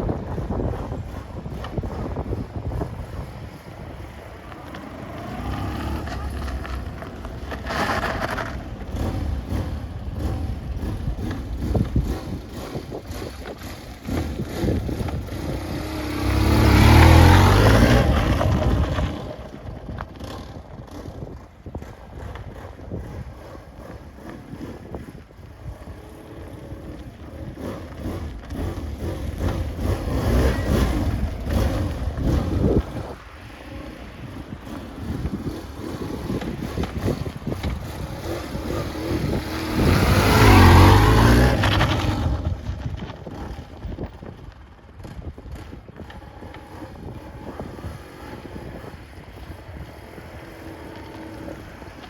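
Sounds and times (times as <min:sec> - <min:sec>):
motorcycle engine running: 0:00.0 - 0:52.0
wind noise: 0:00.0 - 0:52.0.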